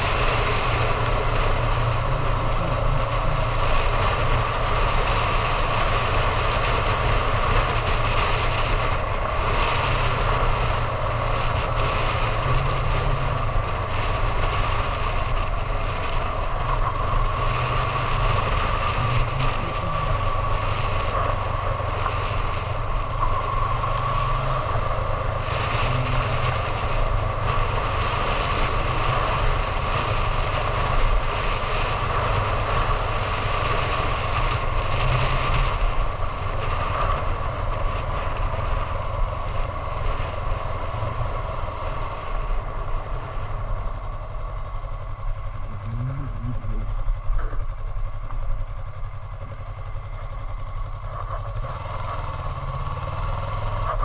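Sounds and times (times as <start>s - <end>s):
motorcycle engine cruising: 0.0s - 54.0s
wind noise: 0.0s - 54.0s.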